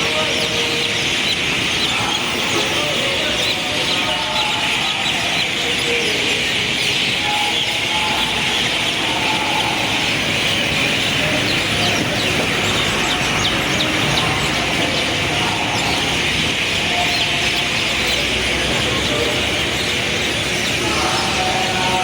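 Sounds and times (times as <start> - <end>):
city traffic rumble: 0.0 - 22.0
small birds chirping: 0.0 - 22.0.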